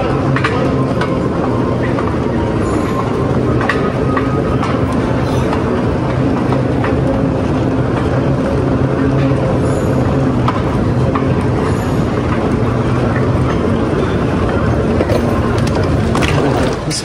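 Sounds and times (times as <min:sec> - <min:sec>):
moving walkway hum and rumble: 0:00.0 - 0:17.0.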